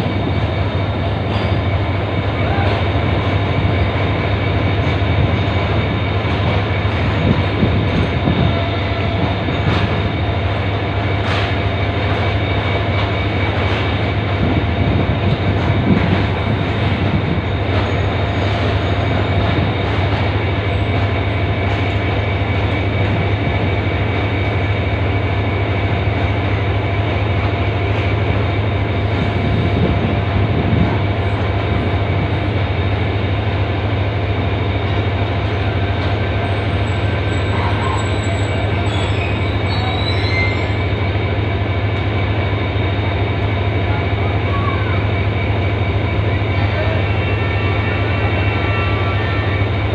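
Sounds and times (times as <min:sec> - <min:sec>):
diesel train engine idling: 0:00.0 - 0:49.9.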